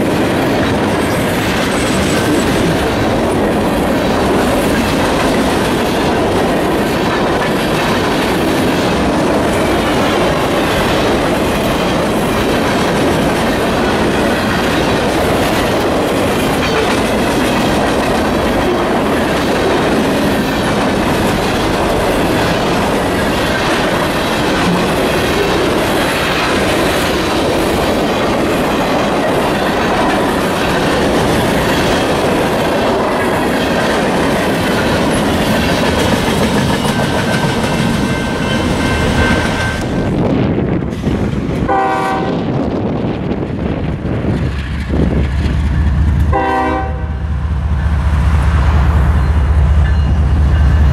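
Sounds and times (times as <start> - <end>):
freight train wheels rumbling: 0.0 - 50.9.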